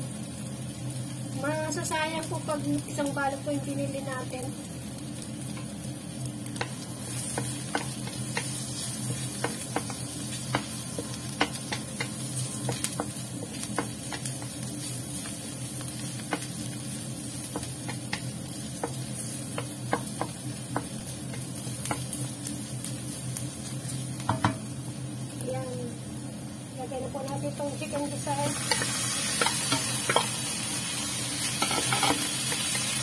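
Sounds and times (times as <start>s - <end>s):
onion and garlic sizzling in oil: 0.0s - 33.0s.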